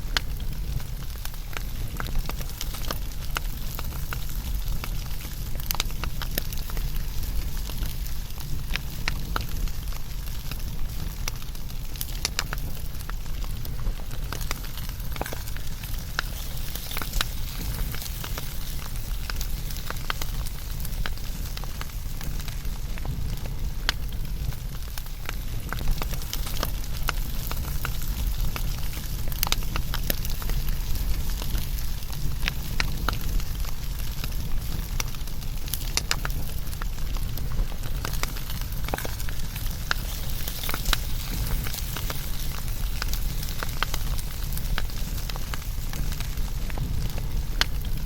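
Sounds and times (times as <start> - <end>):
low steady fire rumble: 0.0 - 48.0
wood fire crackling and popping: 0.0 - 48.0.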